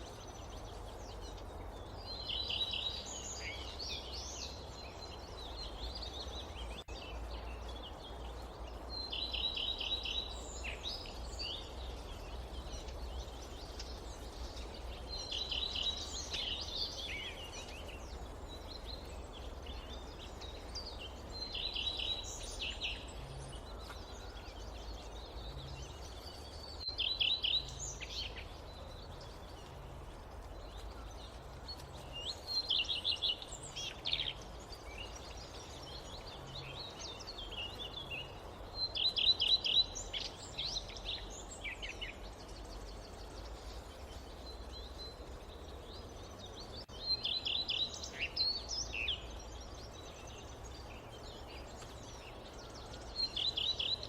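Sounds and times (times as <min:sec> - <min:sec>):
forest background hiss: 0:00.0 - 0:54.0
songbird trilling song: 0:00.0 - 0:54.0.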